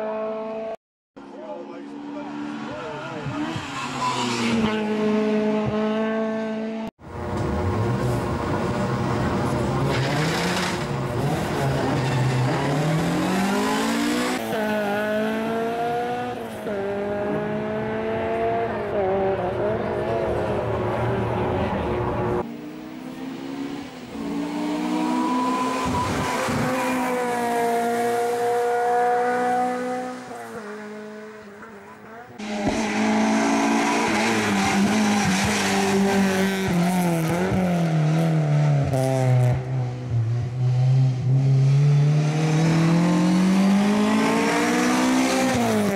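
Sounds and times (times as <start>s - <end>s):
car engine revving at full throttle: 4.5s - 45.9s.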